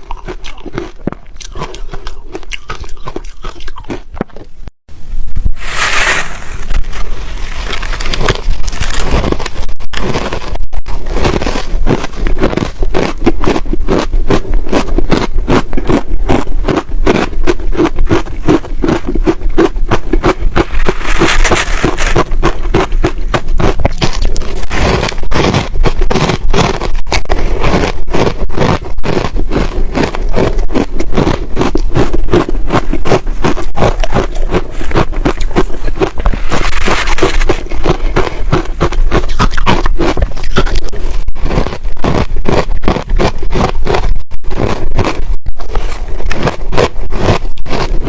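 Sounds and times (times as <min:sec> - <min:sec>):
ice being chewed: 0:00.0 - 0:04.5, 0:06.6 - 0:48.0.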